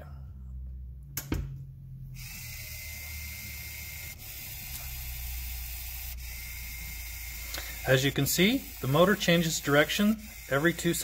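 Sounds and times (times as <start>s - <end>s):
small motor whining: 2.2s - 11.0s.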